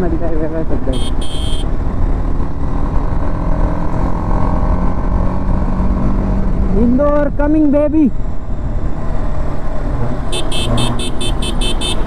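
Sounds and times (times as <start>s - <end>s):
motorcycle engine accelerating: 1.0s - 6.9s, 8.2s - 12.0s.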